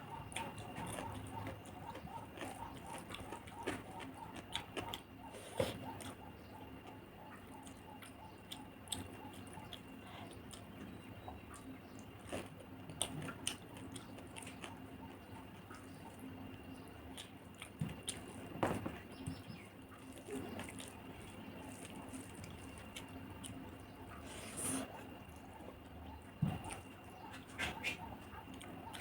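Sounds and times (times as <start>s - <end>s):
chewing: 0.0s - 29.0s
faint steady hum: 0.0s - 29.0s.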